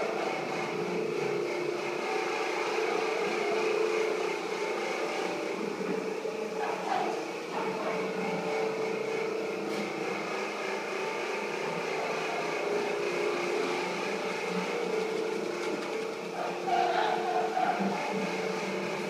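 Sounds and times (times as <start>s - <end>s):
shop vacuum motor whining: 0.0s - 19.0s.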